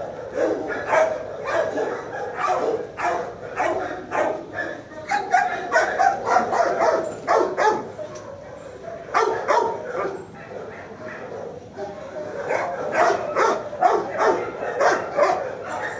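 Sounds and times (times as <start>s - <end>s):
dogs barking: 0.0s - 15.9s.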